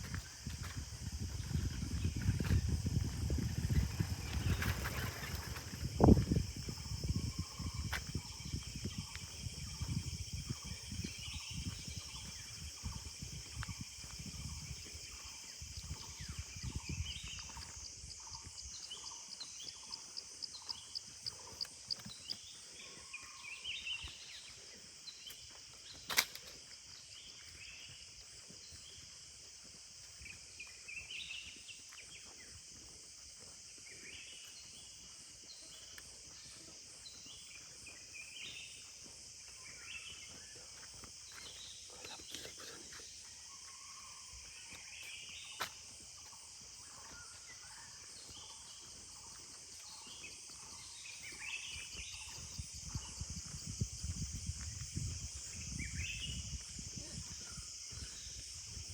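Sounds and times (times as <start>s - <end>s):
insect drone: 0.0s - 58.9s.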